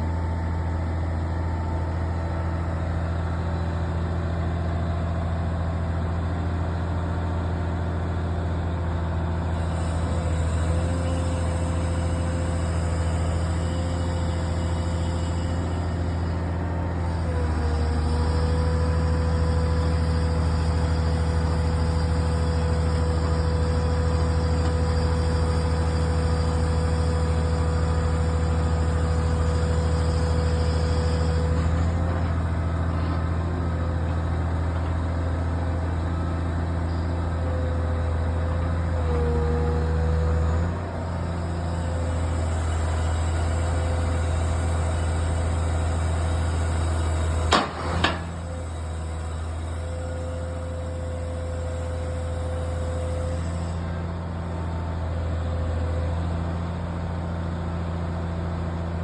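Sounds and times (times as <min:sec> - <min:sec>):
engine whine: 0:00.0 - 0:59.0
excavator diesel engine running: 0:00.0 - 0:59.0.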